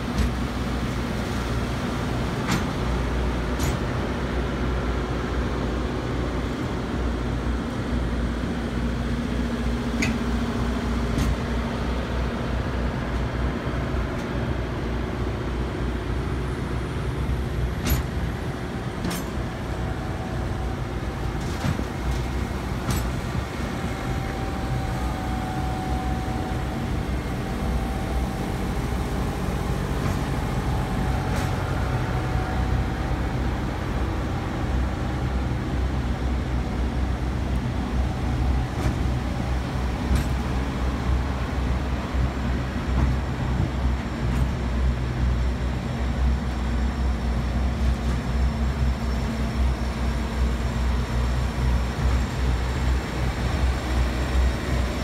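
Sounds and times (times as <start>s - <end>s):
generators droning: 0.0s - 55.0s.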